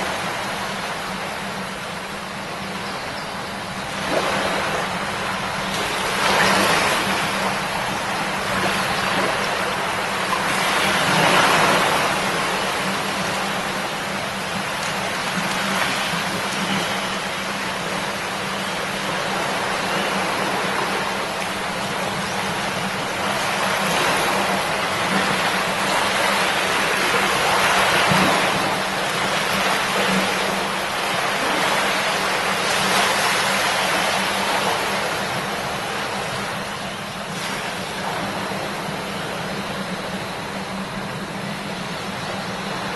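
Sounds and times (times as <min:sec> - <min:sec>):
shallow river babbling: 0:00.0 - 0:42.9.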